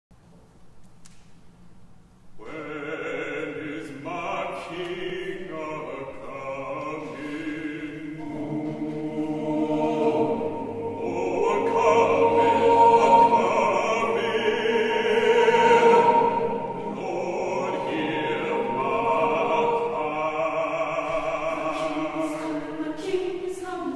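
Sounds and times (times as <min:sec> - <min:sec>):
baritone soloist singing: 0:02.4 - 0:10.4, 0:11.0 - 0:23.9
mixed choir singing chords: 0:02.4 - 0:23.9.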